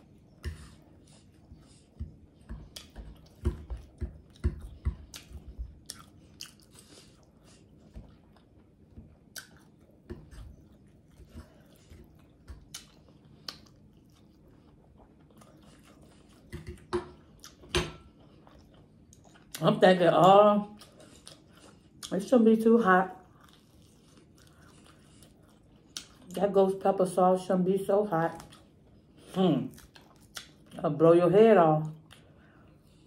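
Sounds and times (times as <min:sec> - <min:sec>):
chewing and smacking mouth sounds: 0:00.0 - 0:26.6, 0:28.1 - 0:30.8, 0:31.8 - 0:33.0.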